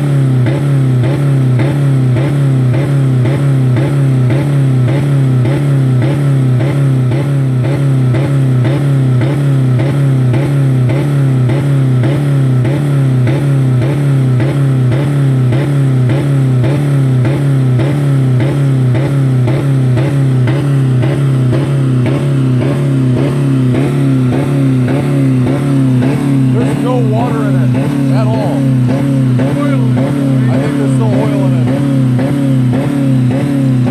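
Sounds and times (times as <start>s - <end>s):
car engine at rev limit: 0.0s - 33.9s.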